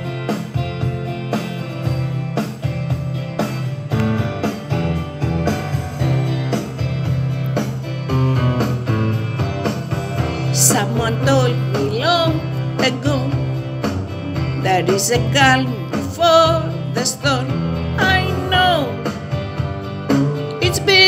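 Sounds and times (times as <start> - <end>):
steady drum beat: 0.0 - 16.9
bass: 0.0 - 21.0
guitar: 0.0 - 21.0.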